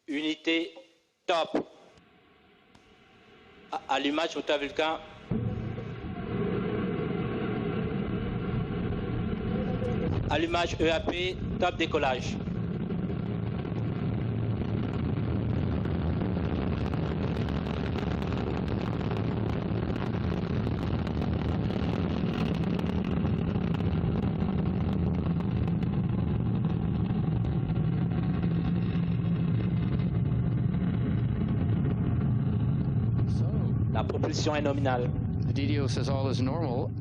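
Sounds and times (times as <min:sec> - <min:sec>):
rocket engine deep rumble: 0:02.9 - 0:37.0.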